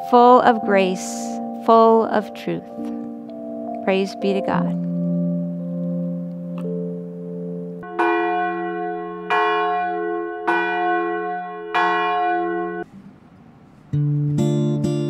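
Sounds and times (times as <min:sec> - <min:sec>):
acoustic guitar playing: 0:00.0 - 0:10.5, 0:12.4 - 0:15.0
struck bell tones: 0:00.0 - 0:12.9.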